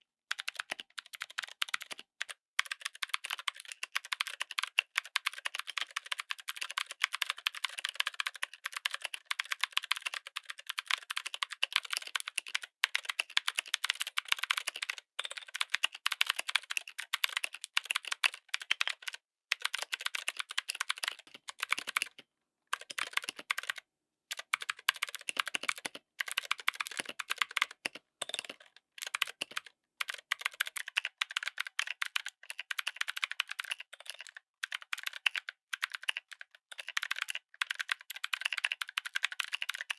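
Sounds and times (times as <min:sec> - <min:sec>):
mechanical keyboard typing: 0:00.3 - 0:39.9.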